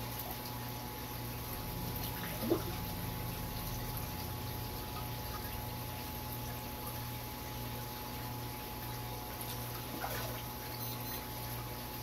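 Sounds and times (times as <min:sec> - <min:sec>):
filter pump hum: 0:00.0 - 0:12.0
water noise: 0:00.0 - 0:12.0.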